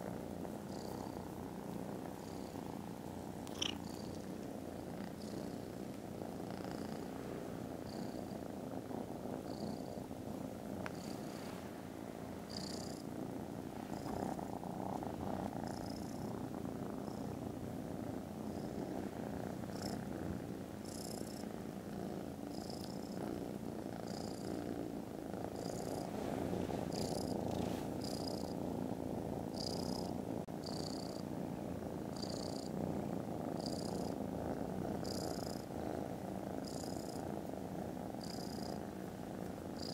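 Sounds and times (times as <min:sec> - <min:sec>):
kittens purring: 0:00.0 - 0:39.9.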